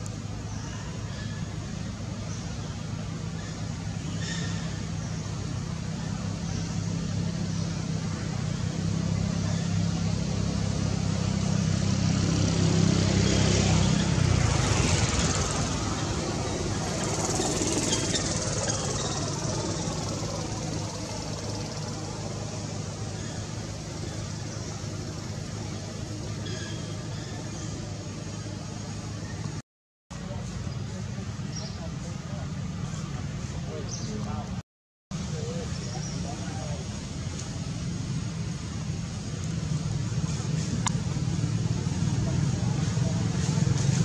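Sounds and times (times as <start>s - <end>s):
broad rushing noise: 0.0s - 29.6s, 30.2s - 44.0s
vehicle engine humming: 0.0s - 44.0s.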